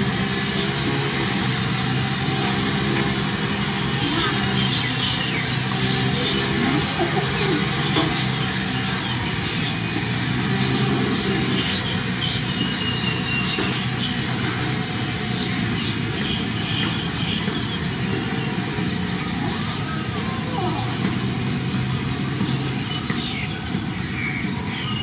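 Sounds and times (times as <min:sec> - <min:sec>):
low mechanical drone: 0:00.0 - 0:25.0.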